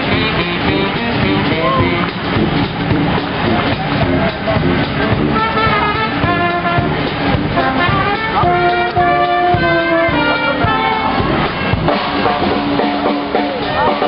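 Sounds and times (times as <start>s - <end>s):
brass band playing: 0.0s - 14.0s
drum beat: 0.0s - 14.0s.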